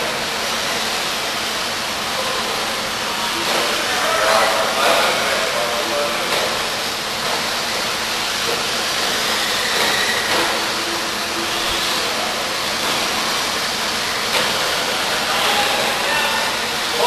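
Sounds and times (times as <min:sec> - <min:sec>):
hiss of motors and tyres: 0:00.0 - 0:17.0.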